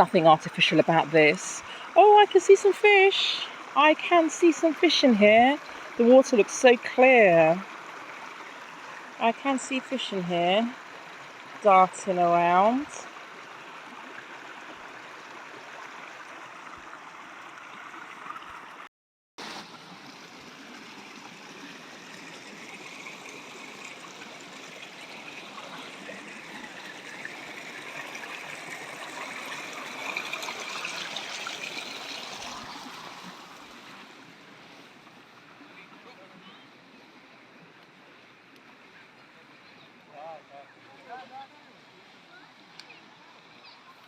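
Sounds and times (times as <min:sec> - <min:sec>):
river flowing and gurgling: 0:00.0 - 0:44.0.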